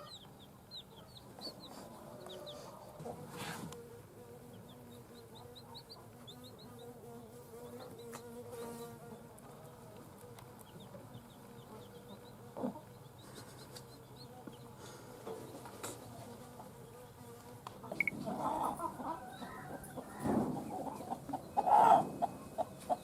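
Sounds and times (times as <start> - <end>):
chicks peeping: 0.0 - 3.8, 4.4 - 23.0.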